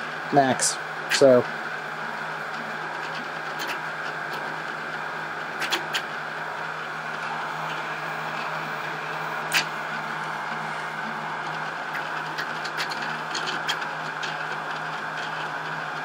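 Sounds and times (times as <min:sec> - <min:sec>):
printer stepper motors whirring: 0:00.0 - 0:16.0.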